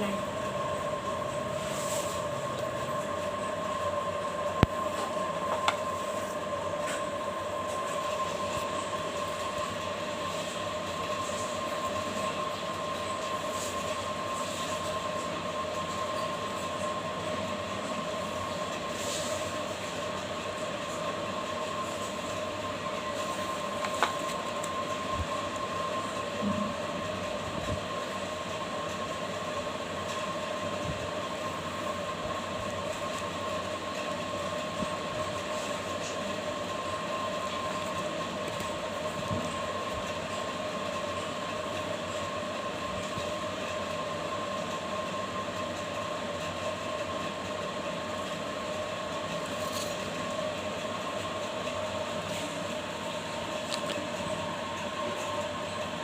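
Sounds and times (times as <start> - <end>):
mechanical hum with high whine: 0.0 - 56.0.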